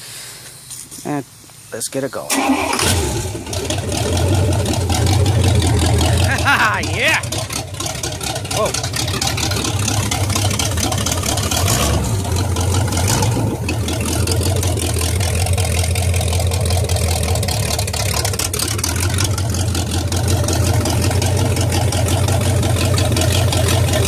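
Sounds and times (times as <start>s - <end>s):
boat engine running: 2.7s - 24.0s.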